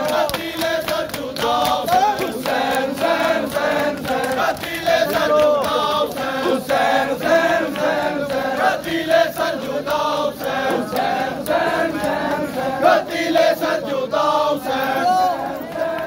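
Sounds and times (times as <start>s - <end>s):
crowd chanting a lament: 0.0s - 16.0s.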